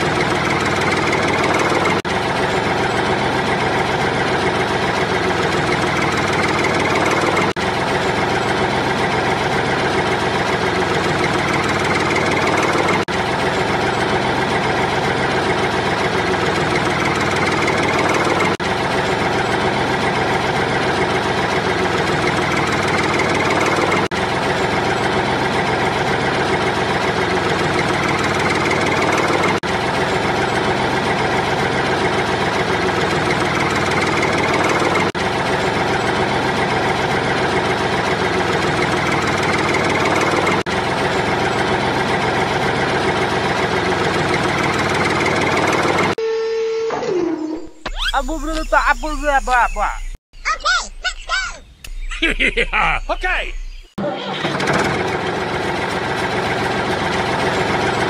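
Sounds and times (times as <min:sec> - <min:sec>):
tractor engine idling: 0:00.0 - 0:46.2, 0:48.2 - 0:58.0.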